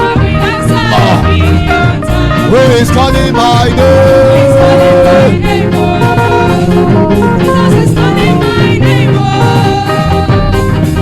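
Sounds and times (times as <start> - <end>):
person singing: 0.0 - 10.6
worship band with drums and guitar: 0.0 - 11.0.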